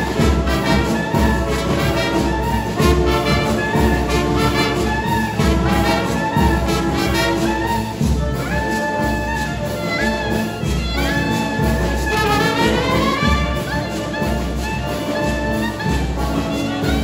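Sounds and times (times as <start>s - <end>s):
wind band playing: 0.0s - 17.0s.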